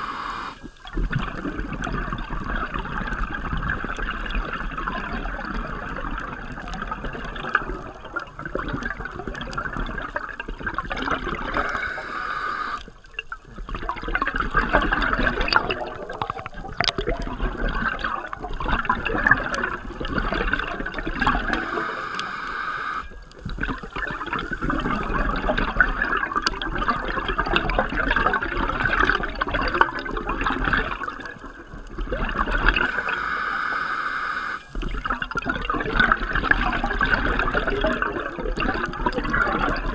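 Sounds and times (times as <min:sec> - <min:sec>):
underwater exhaust bubbles: 0:00.0 - 0:39.9.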